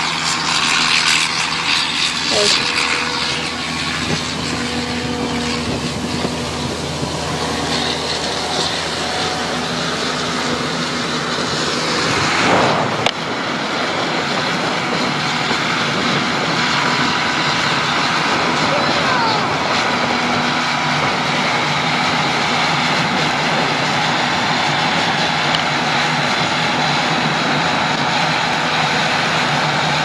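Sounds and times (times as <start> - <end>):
engine running steadily: 0.0 - 30.0
rush of noise: 0.0 - 30.0.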